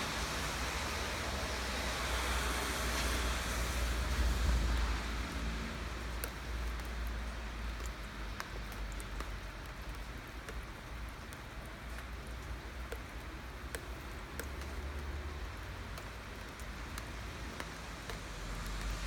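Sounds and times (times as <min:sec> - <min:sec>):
steady rain falling: 0:00.0 - 0:19.0
raindrops tapping close by: 0:00.2 - 0:19.0.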